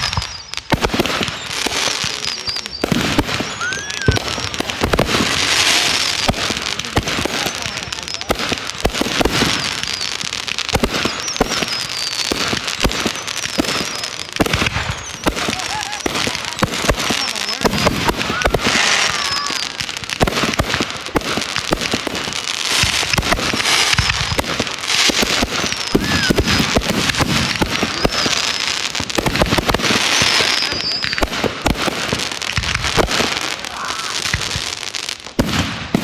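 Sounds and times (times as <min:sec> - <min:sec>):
fireworks bangs and crackling: 0:00.0 - 0:36.0
fireworks whistles: 0:00.0 - 0:36.0.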